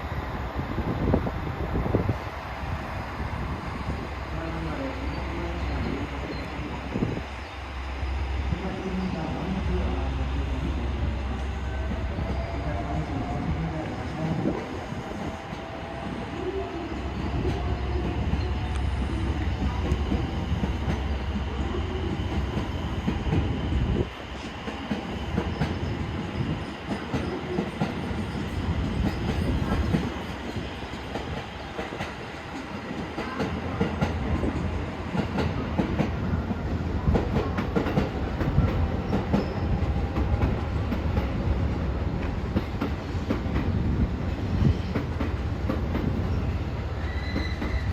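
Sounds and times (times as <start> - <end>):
train low rumble: 0.0 - 47.9.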